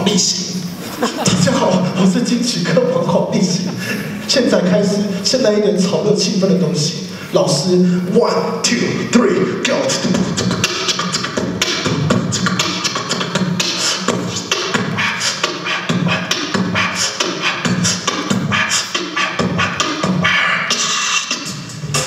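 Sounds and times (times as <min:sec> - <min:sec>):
man beatboxing into a microphone: 0:00.0 - 0:22.0.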